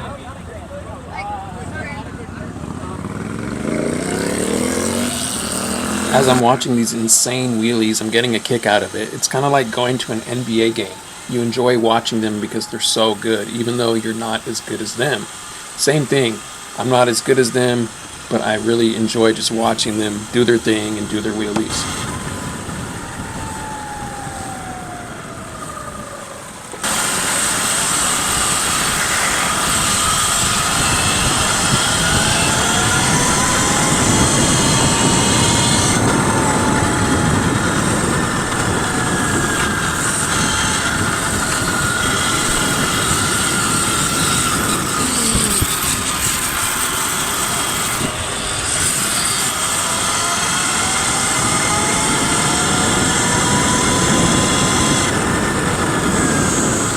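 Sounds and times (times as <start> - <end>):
electric bike motors whining: 0.0 - 56.9
riding noise: 0.0 - 56.9.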